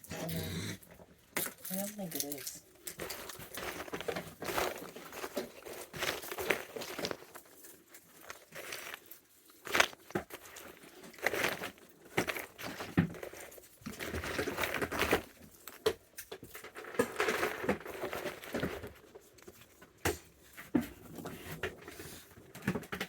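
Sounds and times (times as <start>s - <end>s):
crinkling and rustling: 0.0s - 23.0s
raccoons crunching food: 0.0s - 23.0s.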